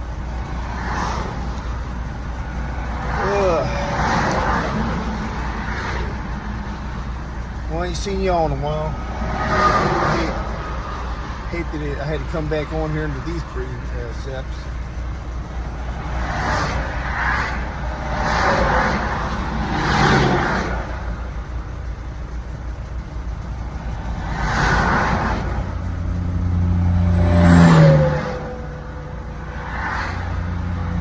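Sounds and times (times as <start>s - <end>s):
truck engine hum: 0.0s - 31.0s
vehicles rushing past: 0.0s - 31.0s.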